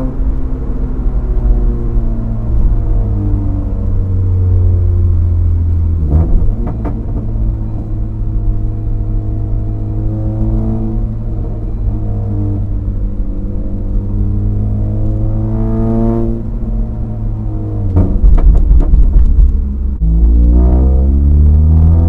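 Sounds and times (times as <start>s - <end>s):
car engine drone from inside: 0.0s - 22.0s.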